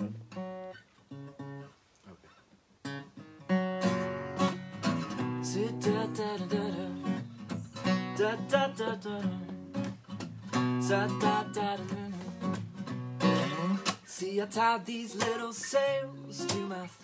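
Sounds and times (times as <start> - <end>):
acoustic guitar picking and strumming: 0.0 - 1.8, 2.8 - 17.0.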